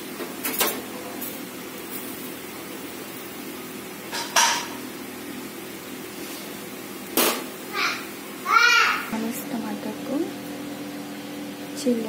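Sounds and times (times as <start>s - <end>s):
gas stove burner hum: 0.0s - 12.0s.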